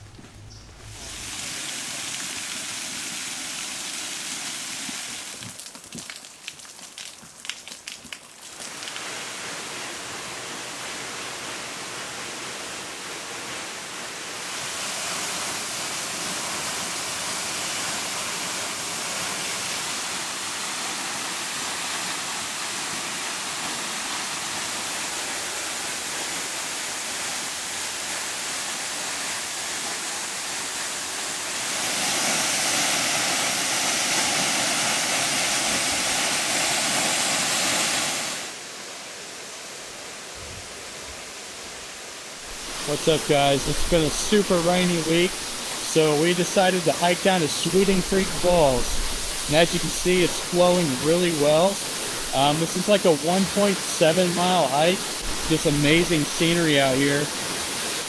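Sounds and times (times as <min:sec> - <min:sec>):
waterfall rushing: 0:00.0 - 0:05.4, 0:08.7 - 0:58.0.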